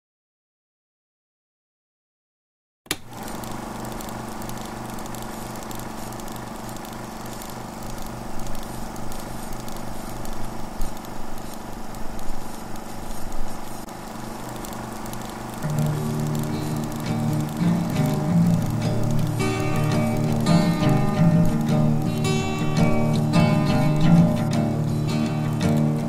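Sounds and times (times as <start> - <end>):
cine projector whirring: 2.9 - 26.0
projector crackles: 2.9 - 26.0.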